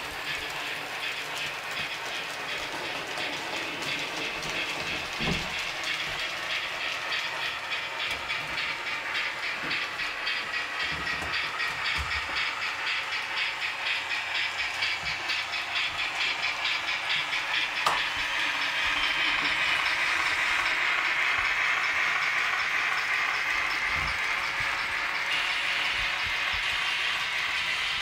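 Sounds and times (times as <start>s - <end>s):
model locomotive chuffing: 0.0s - 28.0s.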